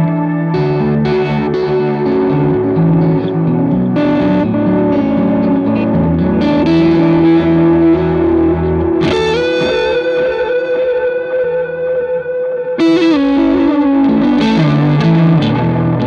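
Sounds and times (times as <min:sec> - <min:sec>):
overdriven electric guitar: 0:00.0 - 0:16.0.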